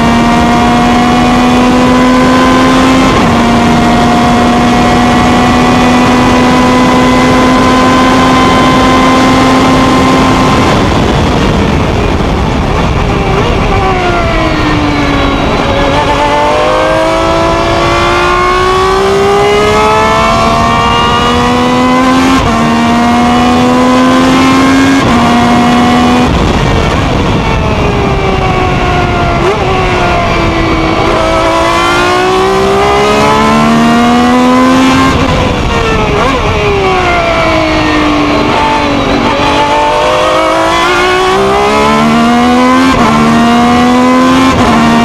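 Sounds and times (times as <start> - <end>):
racing engine at full throttle: 0.0 - 45.0.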